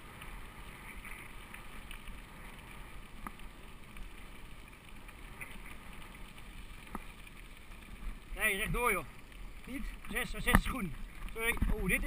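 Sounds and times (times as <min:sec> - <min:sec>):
bike tyres on gravel: 0:00.0 - 0:12.0
faint bike clicks: 0:00.0 - 0:12.0.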